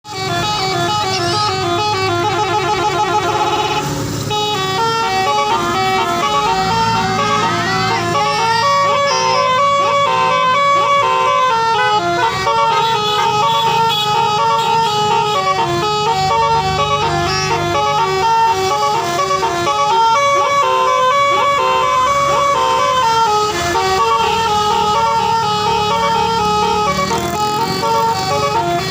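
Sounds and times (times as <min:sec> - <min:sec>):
musical bus horn playing tune: 0:00.0 - 0:28.9.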